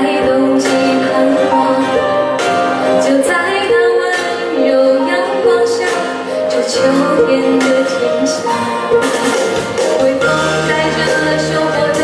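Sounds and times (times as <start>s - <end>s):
recorded backing track: 0.0s - 12.0s
woman singing ballad: 0.0s - 12.0s.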